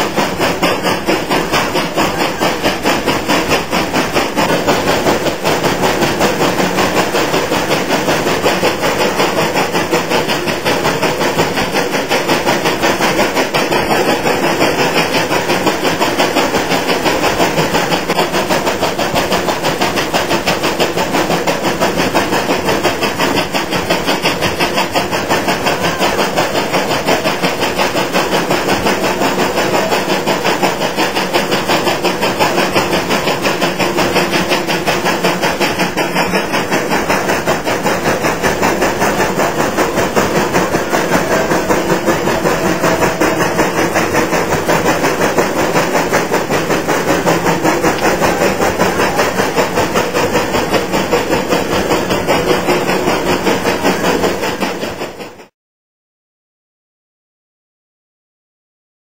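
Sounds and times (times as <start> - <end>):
steam locomotive chuffing: 0.0 - 55.5.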